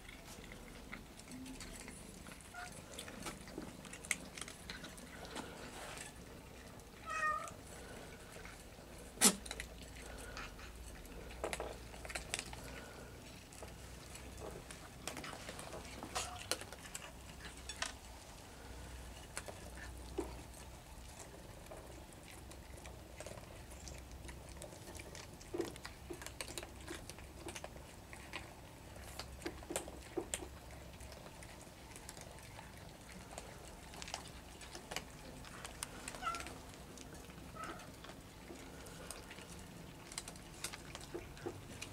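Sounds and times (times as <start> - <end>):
cats crunching kibble: 0.0 - 41.9.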